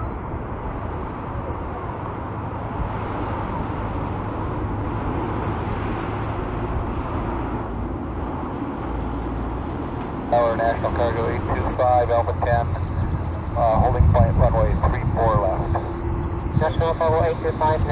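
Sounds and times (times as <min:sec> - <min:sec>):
jet engines idling: 0:00.0 - 0:17.9.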